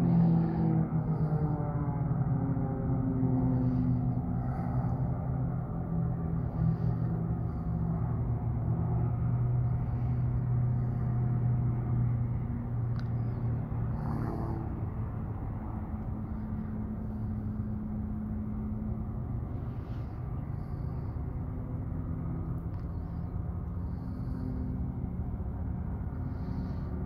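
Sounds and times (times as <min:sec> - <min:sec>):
distant jet aircraft rumbling: 0:00.0 - 0:27.0.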